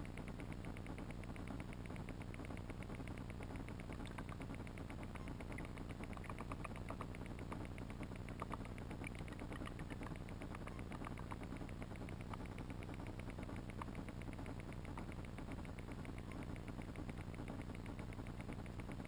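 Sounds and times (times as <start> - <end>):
faint clicks: 0.0 - 19.0
fast even ticking: 0.0 - 19.0.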